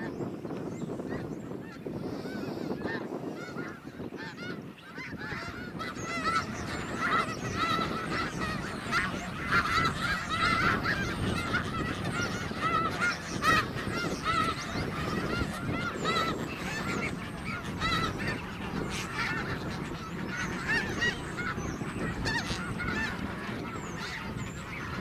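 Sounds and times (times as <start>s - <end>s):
flock of geese honking: 0.0s - 25.0s.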